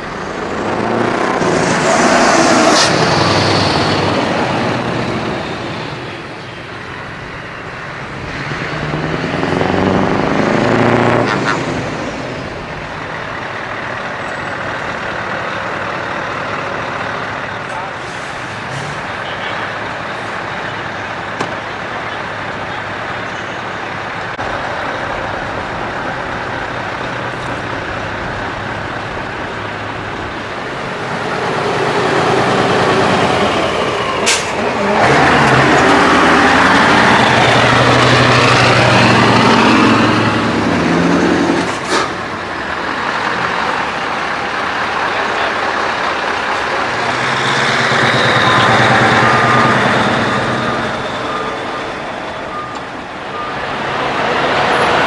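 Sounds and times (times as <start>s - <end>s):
truck diesel engines running: 0.0s - 55.0s.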